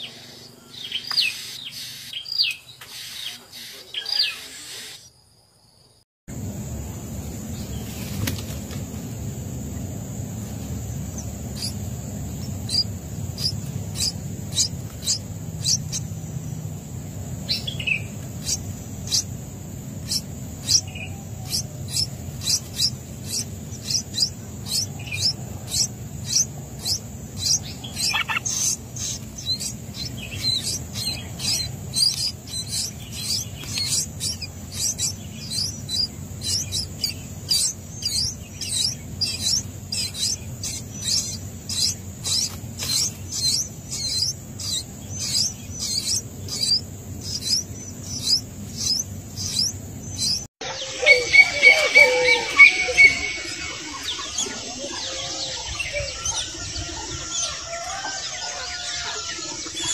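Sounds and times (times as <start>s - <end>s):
nestlings chirping: 0.0s - 5.1s, 6.3s - 59.9s.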